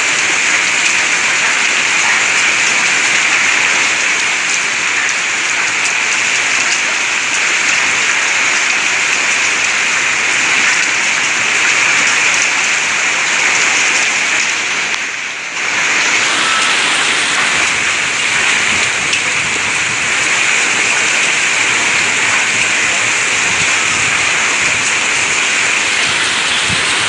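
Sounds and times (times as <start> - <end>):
heavy hail and rain pouring: 0.0 - 27.0.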